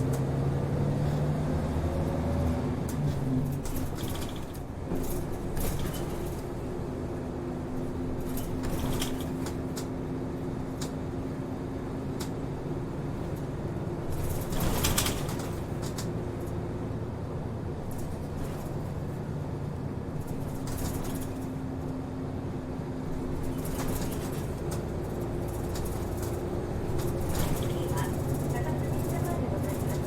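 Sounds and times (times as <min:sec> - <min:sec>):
bus engine hum: 0:00.0 - 0:30.0
rattles and clicks from bus body: 0:00.0 - 0:30.0.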